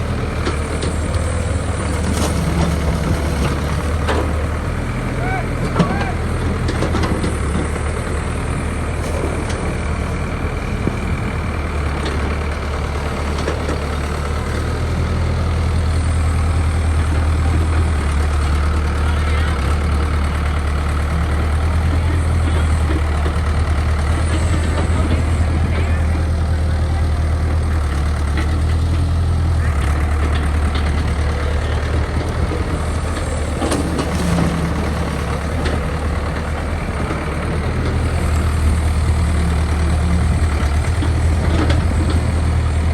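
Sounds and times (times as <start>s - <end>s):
diesel excavator engine droning: 0.0s - 42.9s.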